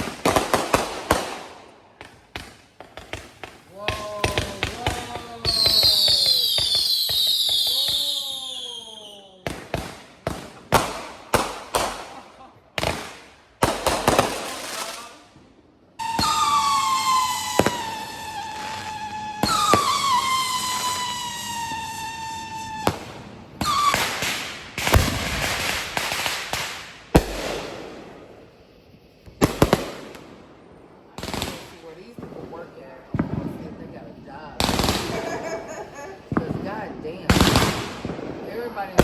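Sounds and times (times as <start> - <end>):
fireworks bangs and crackles: 0.0 - 39.0
whistling fireworks: 0.0 - 39.0.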